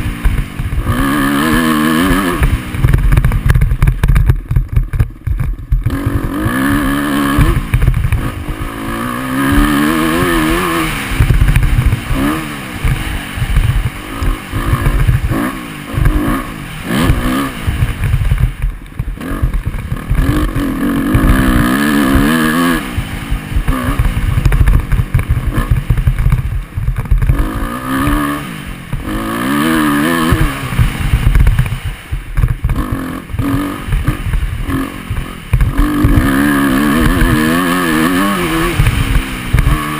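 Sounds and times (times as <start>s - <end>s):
choppy low rumble: 0.0s - 39.9s
dirt bike engine revving: 0.0s - 39.9s.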